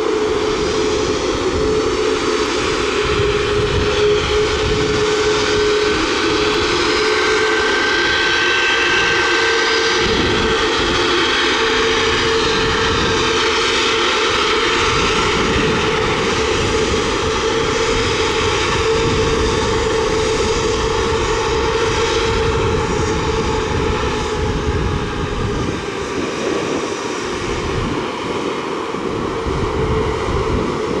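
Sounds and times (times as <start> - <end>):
jet engines at takeoff thrust: 0.0 - 31.0.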